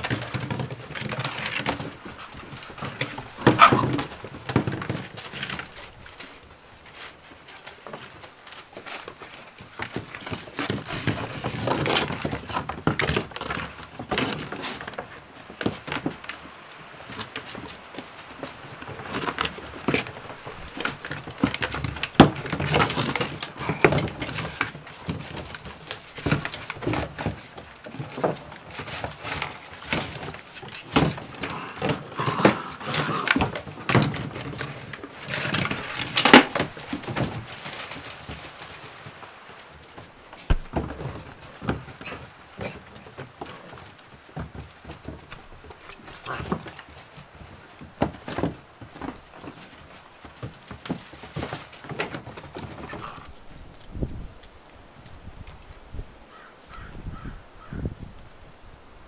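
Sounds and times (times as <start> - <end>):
claws scrabbling on wood: 0.0 - 58.2.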